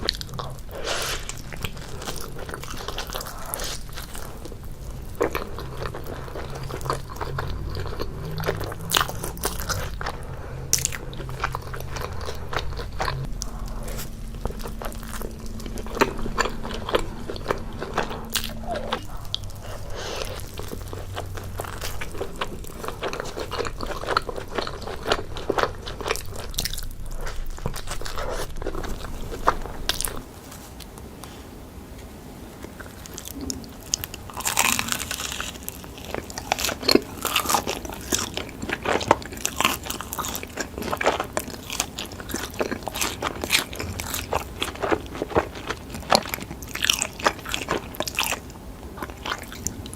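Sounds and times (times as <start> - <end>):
person chewing pizza: 0.0 - 31.3, 32.6 - 49.9
low background hum: 0.0 - 49.9.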